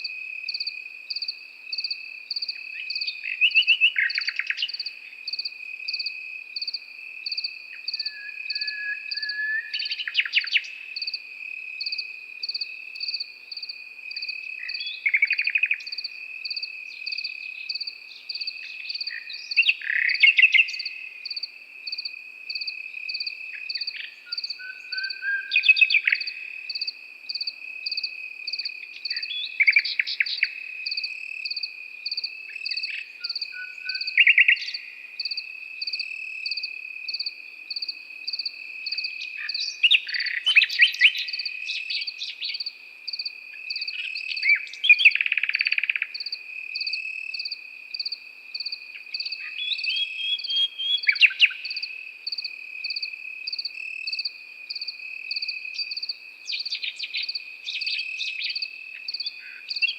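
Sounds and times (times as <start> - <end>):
nightingale singing: 0.0 - 11.2, 11.8 - 59.9
crickets trilling: 0.0 - 59.9.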